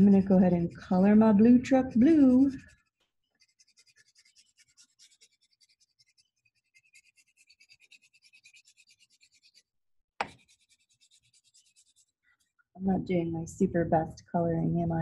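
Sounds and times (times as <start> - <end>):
crayon scratching on paper: 0.0 - 12.5.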